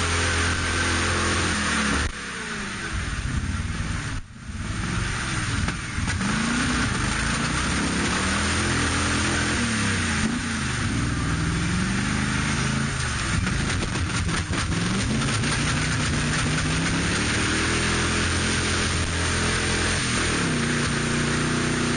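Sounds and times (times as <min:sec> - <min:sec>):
engine revving: 0:00.0 - 0:21.9.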